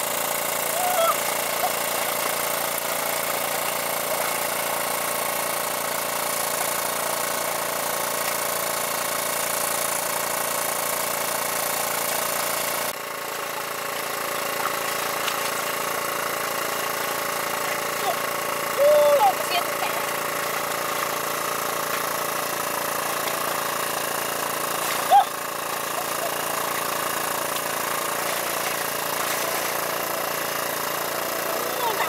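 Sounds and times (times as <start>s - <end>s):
water pump engine running: 0.0s - 32.0s.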